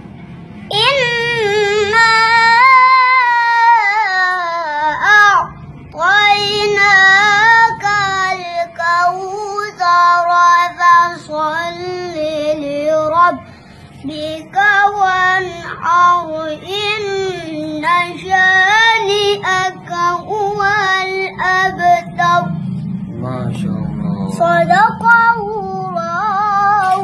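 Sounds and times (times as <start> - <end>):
boy chanting melodically: 0.7 - 27.0.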